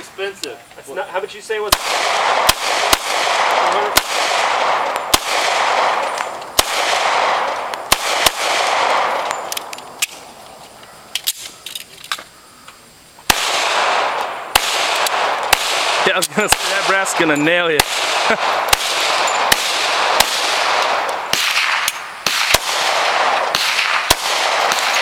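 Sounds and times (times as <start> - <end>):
echoing gunshots: 1.4 - 10.4, 13.2 - 25.0.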